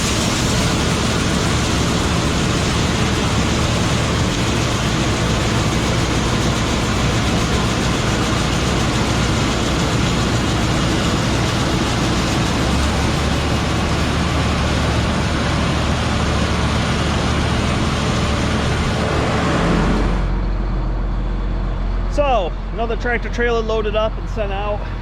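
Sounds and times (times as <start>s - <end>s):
heavy diesel vehicle running: 0.0s - 25.0s.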